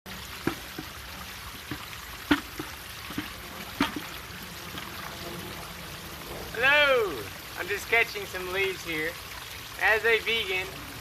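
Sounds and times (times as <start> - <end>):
stream water running: 0.1 - 11.0
water plops and trickles: 0.1 - 11.0.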